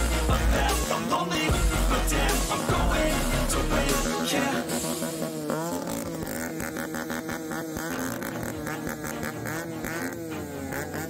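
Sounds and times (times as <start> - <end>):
motocross bikes racing: 0.0 - 11.0.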